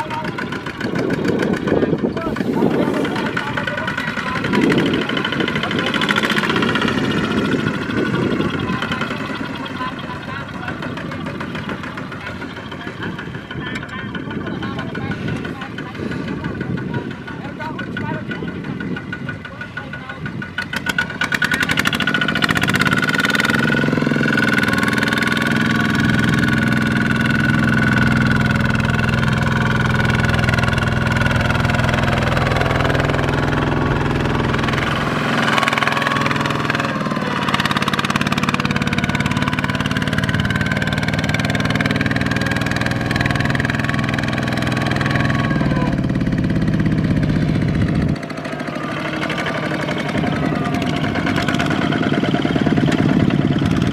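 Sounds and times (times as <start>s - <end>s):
tractor diesel engine revving: 0.0s - 53.9s.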